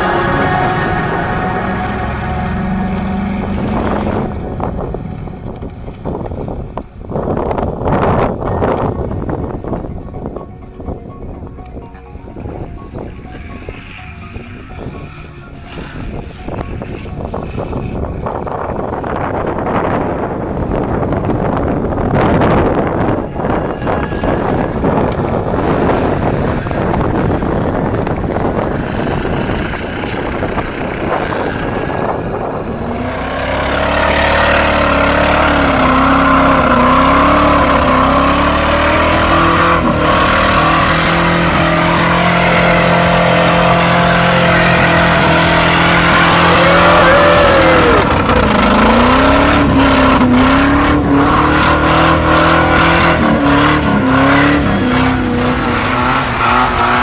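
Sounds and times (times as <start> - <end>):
truck engine revving: 0.0 - 9.8, 12.9 - 57.0.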